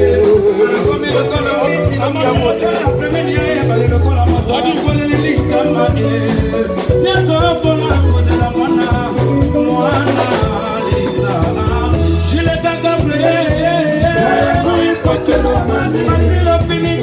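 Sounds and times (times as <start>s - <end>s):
bass guitar held notes: 0.0s - 17.0s
melodic guitar lines: 0.0s - 17.0s
person singing: 0.0s - 17.0s.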